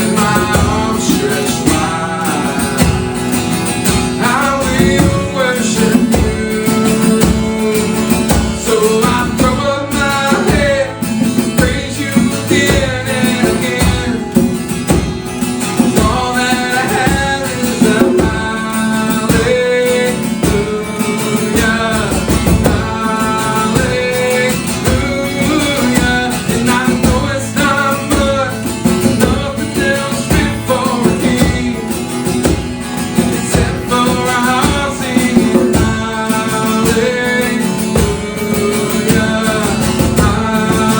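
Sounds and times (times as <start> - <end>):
person singing: 0.0 - 40.9
strummed acoustic guitar: 0.0 - 40.9.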